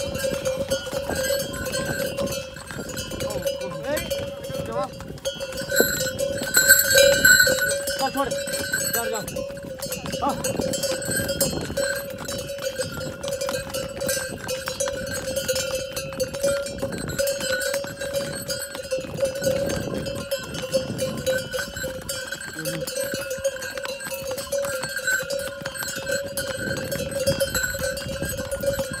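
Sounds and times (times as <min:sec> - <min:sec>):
harness bells jangling: 0:00.0 - 0:29.0
hooves on stone path: 0:00.0 - 0:29.0.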